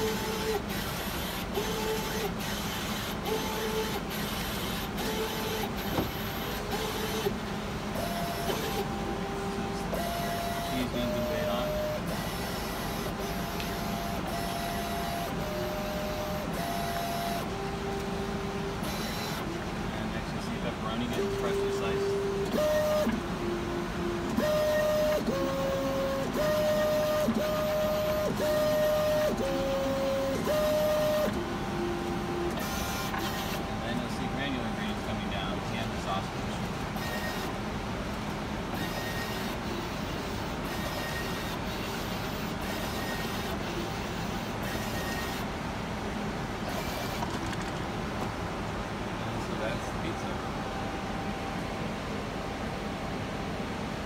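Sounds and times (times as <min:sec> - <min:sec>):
machine motors whining: 0:00.0 - 0:53.8.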